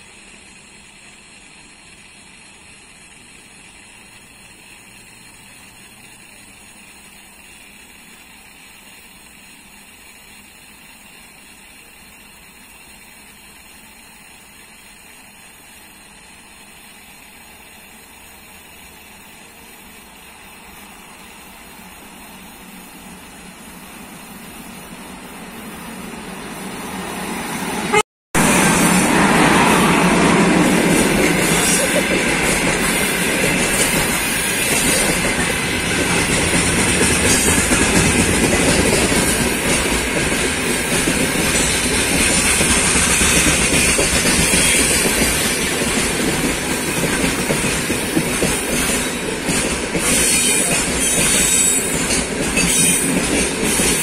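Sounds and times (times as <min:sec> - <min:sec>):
freight train rushing: 0:00.0 - 0:54.0.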